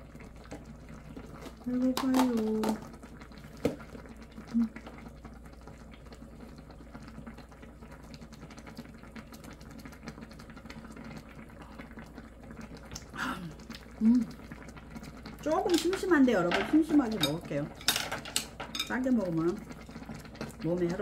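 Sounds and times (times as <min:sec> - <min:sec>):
stew bubbling in a hot pot: 0:00.0 - 0:21.0.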